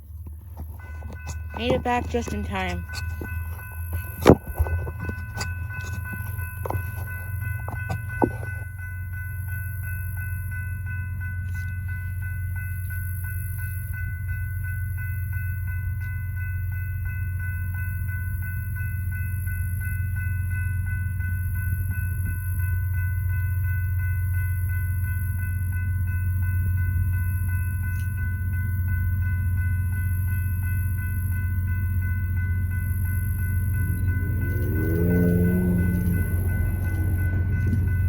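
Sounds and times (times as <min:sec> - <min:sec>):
crossing bell ringing: 0:00.0 - 0:38.0
freight train diesel rumble: 0:00.0 - 0:38.0.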